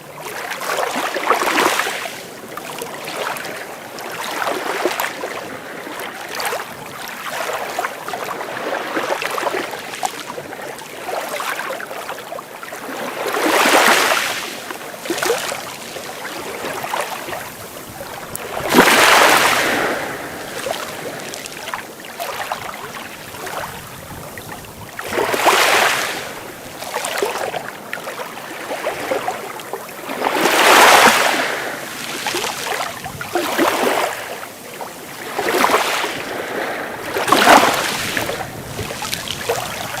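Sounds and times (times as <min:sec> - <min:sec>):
sea waves breaking on shore: 0:00.0 - 0:40.0.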